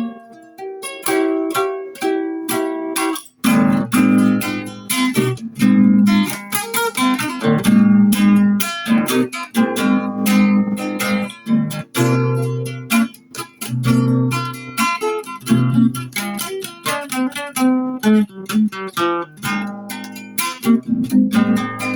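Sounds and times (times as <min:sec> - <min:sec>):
acoustic guitar improvisation: 0:00.0 - 0:21.9.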